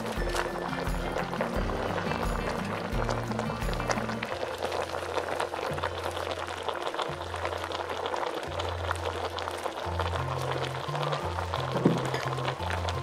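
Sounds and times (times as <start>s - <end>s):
background music with bass line: 0.0s - 6.3s, 8.4s - 13.0s
soup bubbling in a pot: 0.0s - 13.0s.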